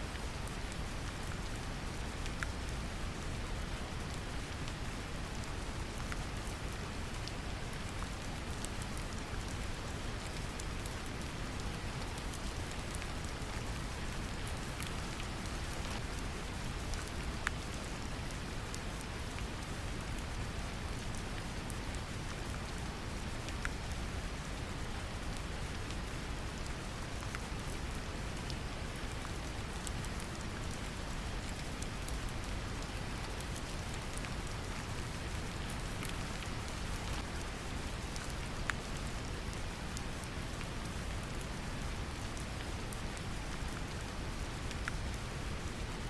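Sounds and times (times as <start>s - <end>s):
gentle rain: 0.0s - 46.0s
rain drops ticking: 0.0s - 46.0s.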